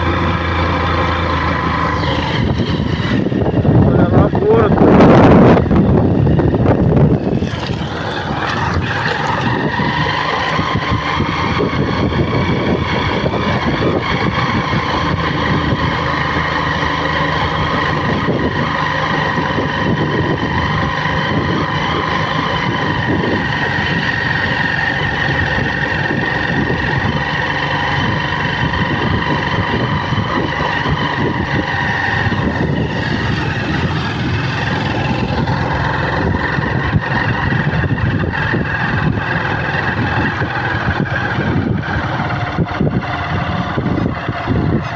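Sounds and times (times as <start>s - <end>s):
vehicle engine droning: 0.0s - 44.9s.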